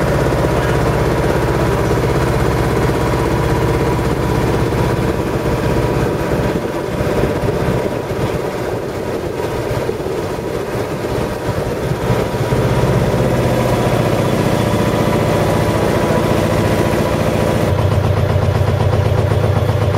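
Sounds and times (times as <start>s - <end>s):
boat engine humming: 0.0s - 19.9s.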